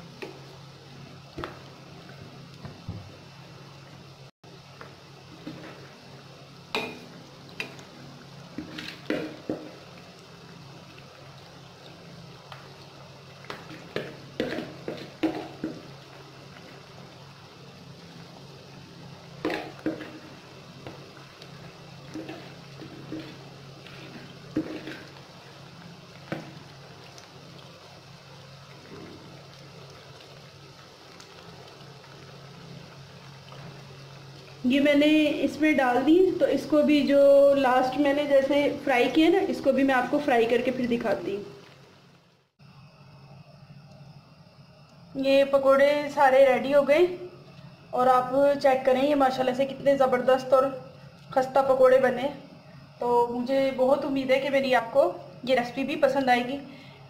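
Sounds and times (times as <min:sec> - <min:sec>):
oil sizzling and bubbling: 0:00.0 - 0:57.0.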